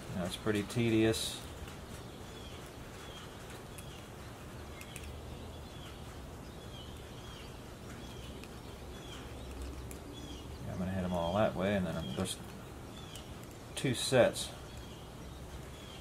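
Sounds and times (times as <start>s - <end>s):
small bird chirping: 1.4s - 16.0s.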